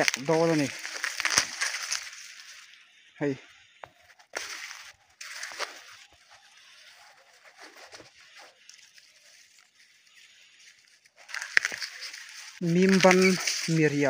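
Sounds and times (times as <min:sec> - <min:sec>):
corn stalk crackle and snap: 0:00.0 - 0:02.8, 0:04.1 - 0:09.9, 0:10.6 - 0:14.0
leaves and stalks rustling: 0:00.0 - 0:14.0.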